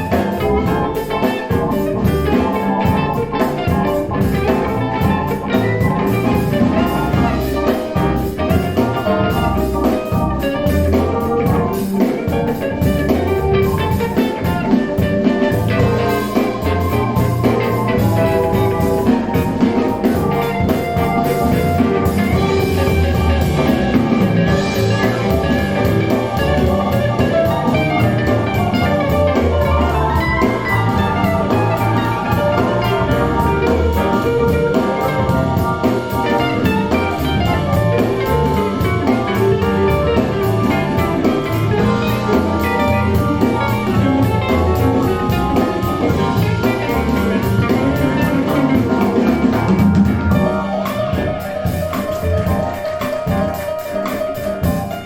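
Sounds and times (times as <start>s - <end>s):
instrumental music with steady beat: 0.0s - 55.0s.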